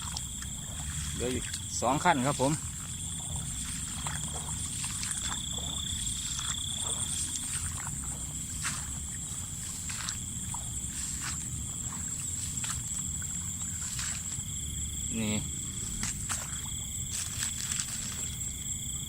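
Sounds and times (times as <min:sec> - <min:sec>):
low rumble: 0:00.0 - 0:17.8
frogs and insects trilling: 0:00.0 - 0:19.0.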